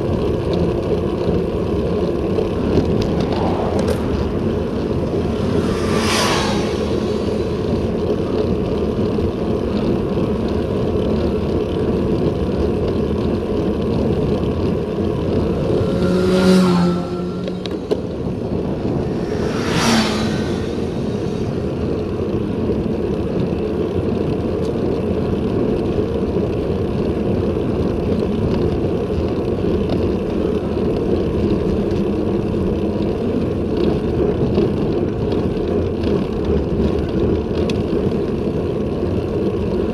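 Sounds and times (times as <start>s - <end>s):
vehicles passing: 0.0s - 39.9s
wind and road noise: 0.0s - 39.9s.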